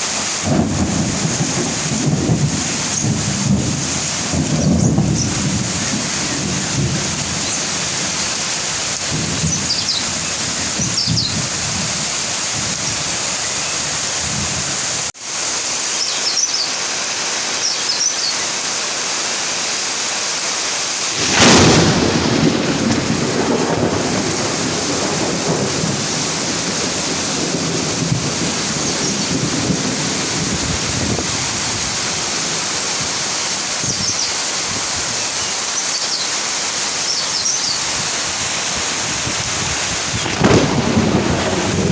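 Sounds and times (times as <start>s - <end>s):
thunderclap rumbling: 0.0s - 15.1s, 21.1s - 35.2s, 37.4s - 41.9s
heavy rain: 0.0s - 41.9s.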